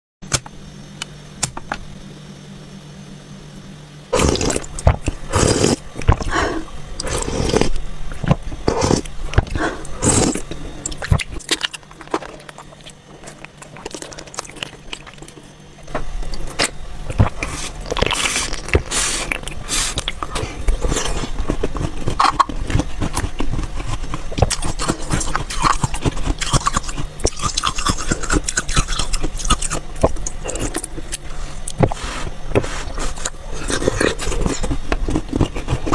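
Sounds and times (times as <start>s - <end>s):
ice being chewed: 4.2s - 6.4s, 7.0s - 35.9s.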